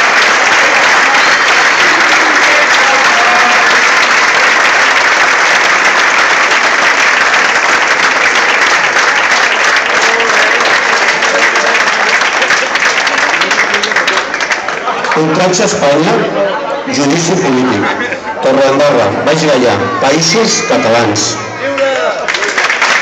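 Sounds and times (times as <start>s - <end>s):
crowd clapping: 0.0s - 16.2s, 18.9s - 23.0s.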